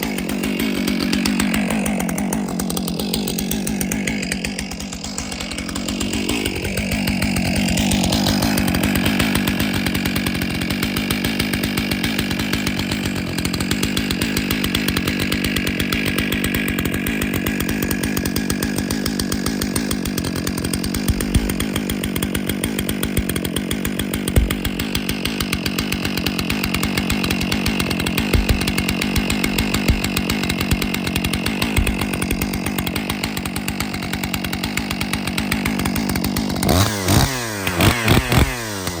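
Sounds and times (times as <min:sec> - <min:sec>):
chainsaw engine running: 0:00.0 - 0:39.0.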